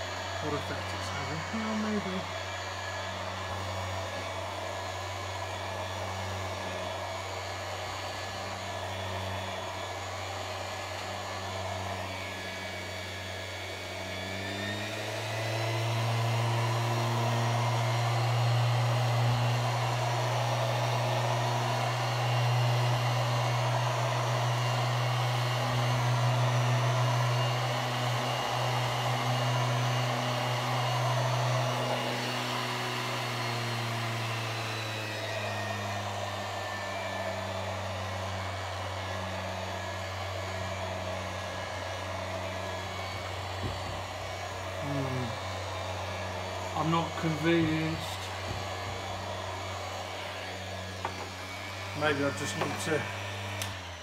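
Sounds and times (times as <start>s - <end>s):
orbital sander on wood: 0.0s - 54.0s.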